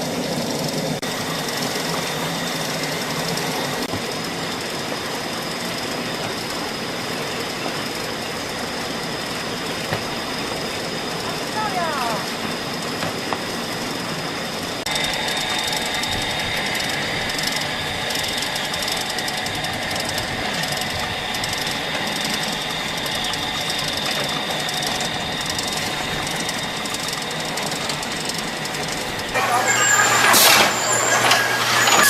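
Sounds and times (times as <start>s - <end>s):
high machine whine: 0.0s - 32.0s
machinery clattering: 0.0s - 32.0s.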